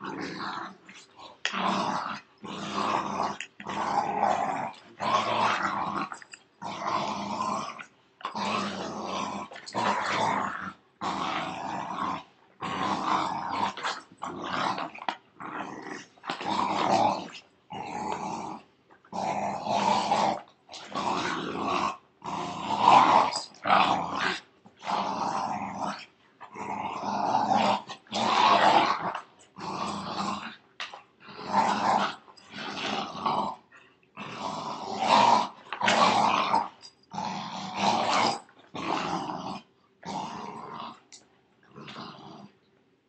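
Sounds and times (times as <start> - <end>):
dogs play-growling: 0.0 - 42.5.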